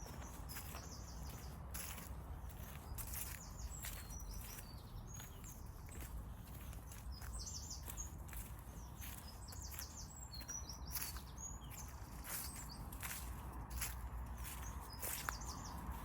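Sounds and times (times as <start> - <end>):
footsteps on woodland path: 0.0 - 16.0
songbirds chirping: 0.0 - 16.0.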